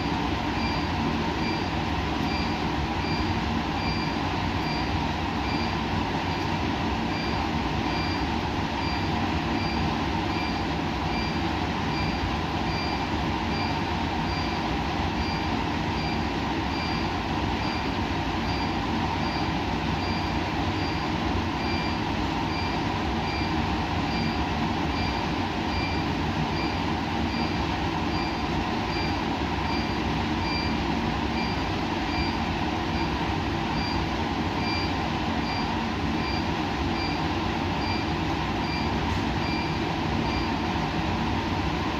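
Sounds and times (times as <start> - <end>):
machine hum and hiss: 0.0 - 41.9.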